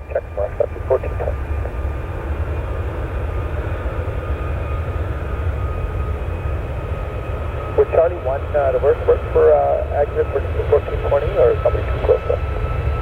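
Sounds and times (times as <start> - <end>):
airliner engine rumble: 0.0 - 13.0.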